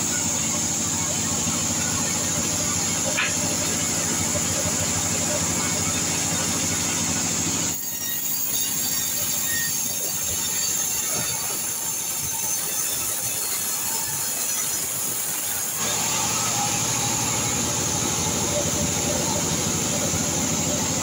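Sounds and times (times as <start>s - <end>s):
band saw blade whining through wood: 0.0s - 21.0s
band saw mill running: 0.0s - 21.0s.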